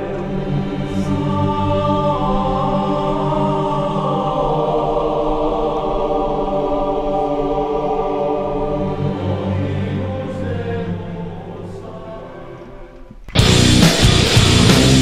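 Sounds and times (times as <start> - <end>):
background music of held chords: 0.0 - 15.0.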